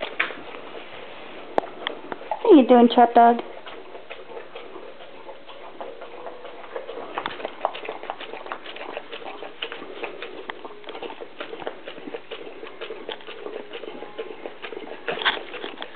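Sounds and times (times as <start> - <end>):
dog eating from plastic bowl: 0.0 - 15.9.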